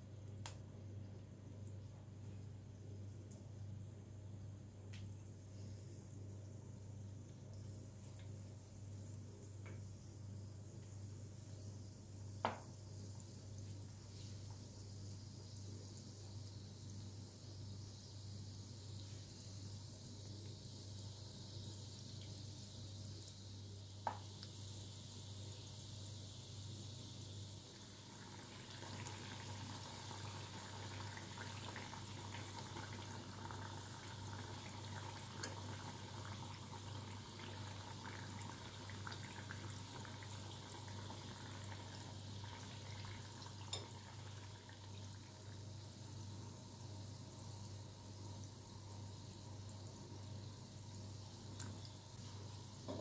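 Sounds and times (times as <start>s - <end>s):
oil sizzling and crackling: 6.6s - 53.0s.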